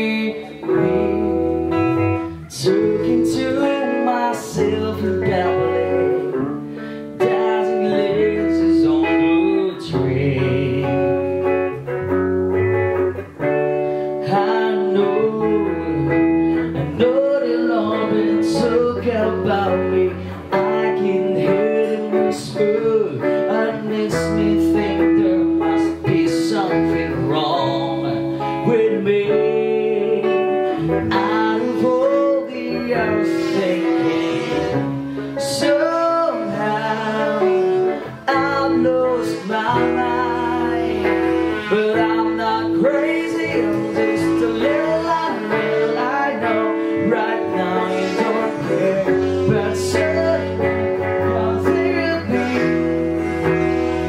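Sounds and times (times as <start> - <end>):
man singing: 0.0 - 12.4, 13.4 - 54.0
bass guitar: 0.0 - 54.0
electric guitar: 0.0 - 54.0.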